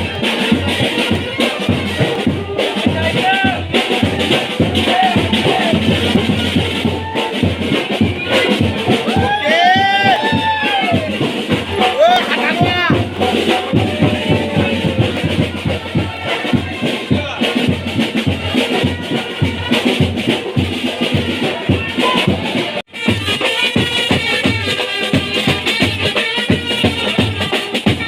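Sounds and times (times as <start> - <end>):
bass drum beat: 0.0 - 28.0
marching band music: 0.0 - 28.0.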